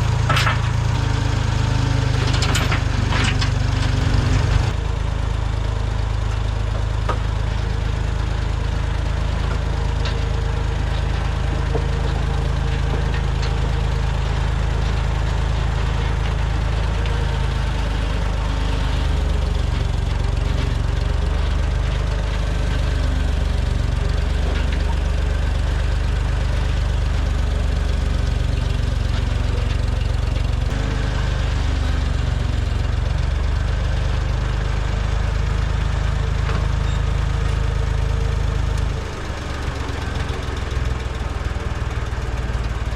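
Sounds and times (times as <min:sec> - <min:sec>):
low engine rumbling: 0:00.0 - 0:42.9.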